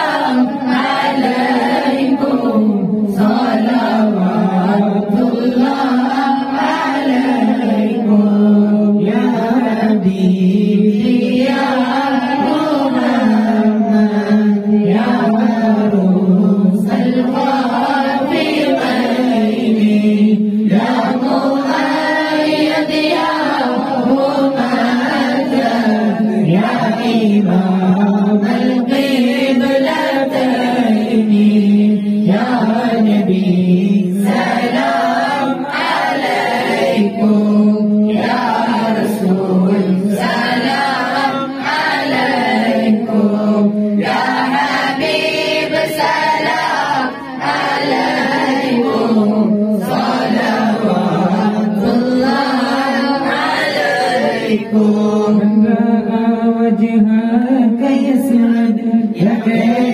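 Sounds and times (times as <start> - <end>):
group chanting in unison: 0.0 - 59.9.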